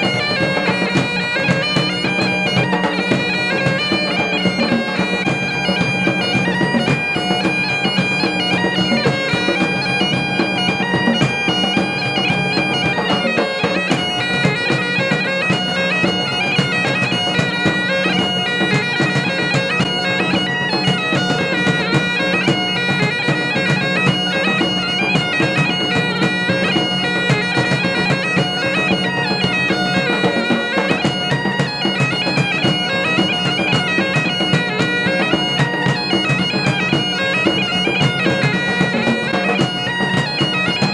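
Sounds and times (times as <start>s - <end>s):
bagpipes playing over drones: 0.0s - 40.9s
drums beating: 0.0s - 40.9s.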